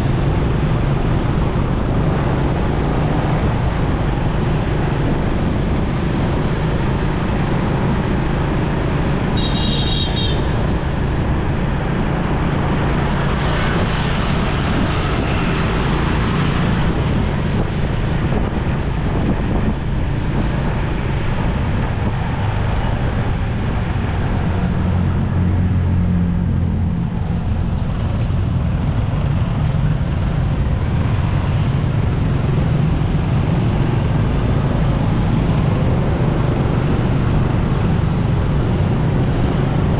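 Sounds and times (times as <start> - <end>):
motorcycle engine and road noise: 0.0 - 39.9.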